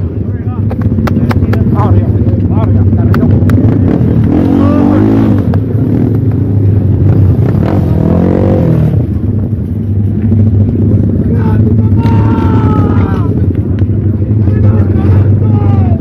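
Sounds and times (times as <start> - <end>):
racing kart engines passing: 0.0 - 16.0.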